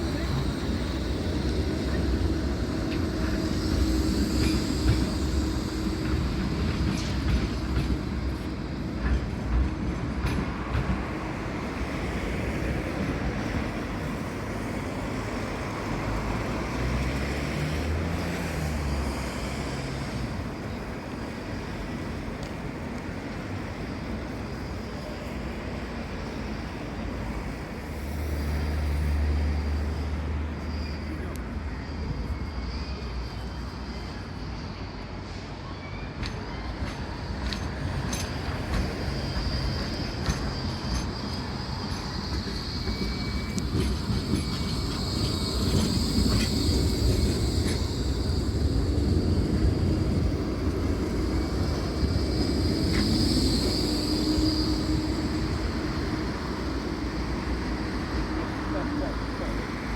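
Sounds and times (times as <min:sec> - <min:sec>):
tram wheels rumbling on track: 0:00.0 - 0:59.9.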